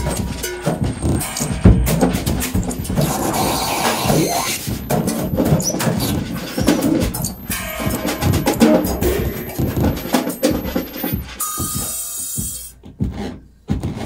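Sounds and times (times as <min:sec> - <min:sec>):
harsh buzzing tone: 0:00.0 - 0:12.8
drums: 0:00.0 - 0:14.0.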